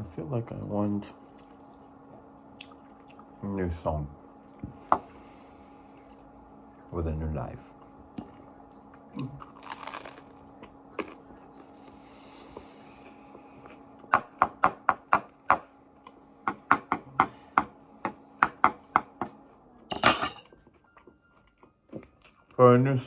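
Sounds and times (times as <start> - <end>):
steady low hum: 0.0 - 20.5.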